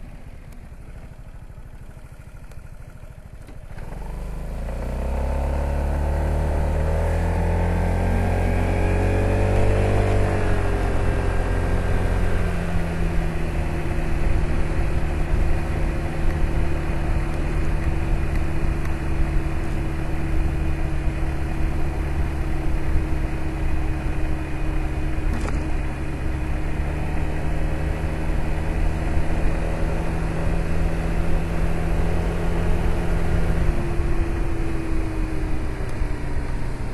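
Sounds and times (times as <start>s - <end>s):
scooter engine: 0.0s - 36.9s.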